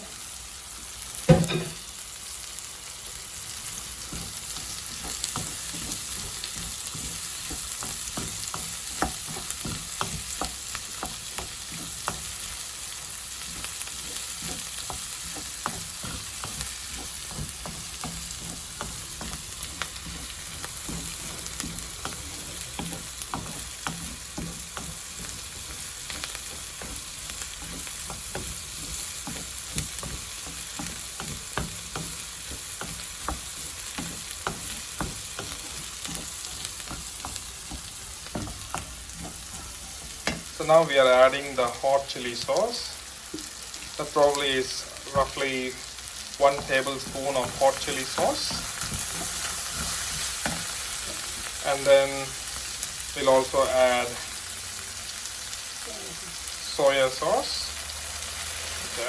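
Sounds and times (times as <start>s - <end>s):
vegetables sizzling in hot oil: 0.0s - 59.0s
utensil tapping and scraping pan: 3.5s - 53.0s.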